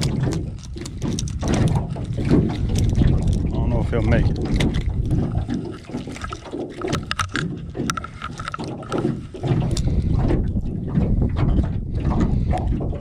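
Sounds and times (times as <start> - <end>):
fishing tackle clicks and knocks: 0.0 - 13.0
water lapping boat hull: 0.0 - 13.0
wind rumbling on microphone: 0.0 - 13.0.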